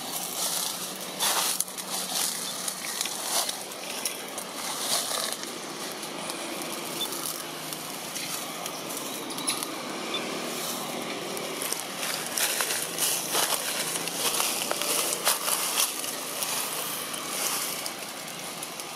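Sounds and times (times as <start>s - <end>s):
short crackles and rustles: 0.0s - 9.8s, 10.5s - 18.9s
outdoor background hiss: 0.0s - 18.9s.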